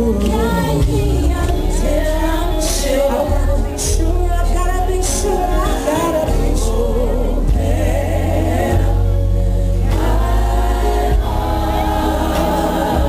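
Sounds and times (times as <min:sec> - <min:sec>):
gospel band with strong bass: 0:00.0 - 0:13.0.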